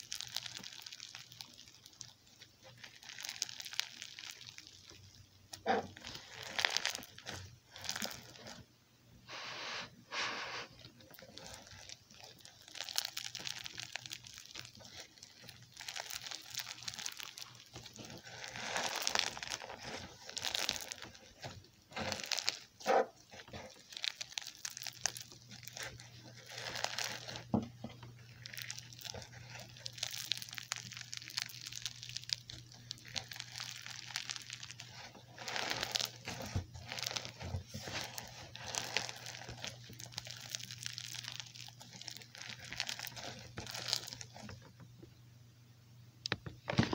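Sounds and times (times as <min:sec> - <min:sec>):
slime crunching and crackling: 0:00.0 - 0:08.7, 0:10.6 - 0:44.9.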